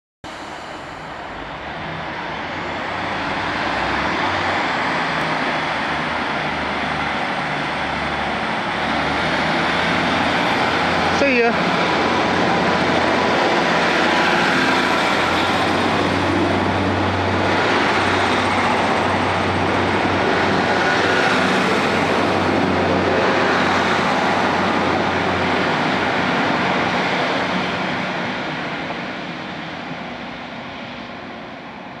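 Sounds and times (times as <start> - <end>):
diesel train engine drone: 0.2 - 32.0
train wheels on rails: 0.2 - 32.0.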